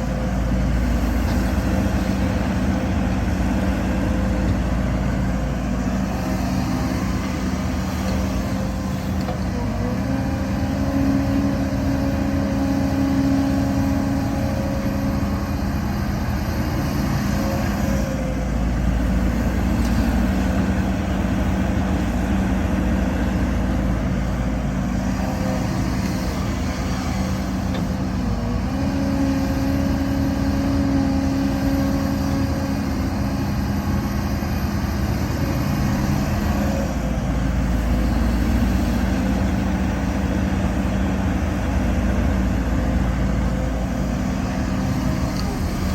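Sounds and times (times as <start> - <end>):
heavy diesel engines rumbling: 0.0 - 45.9.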